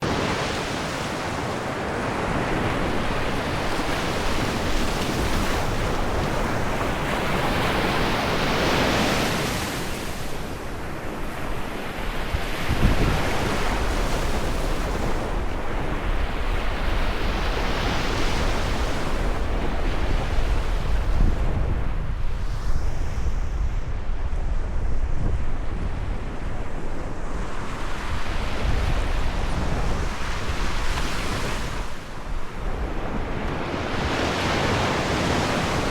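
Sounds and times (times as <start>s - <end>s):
sea waves breaking: 0.0s - 35.9s
wind rumble on microphone: 0.0s - 35.9s.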